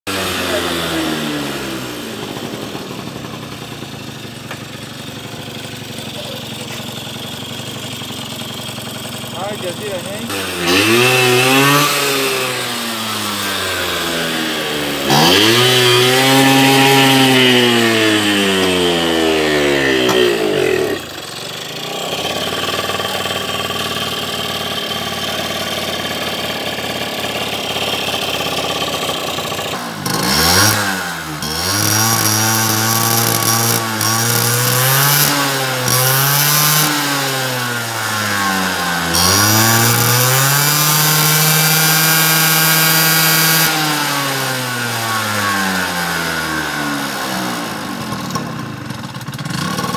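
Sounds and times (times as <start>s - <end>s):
scooter engine revving: 0.1s - 49.9s.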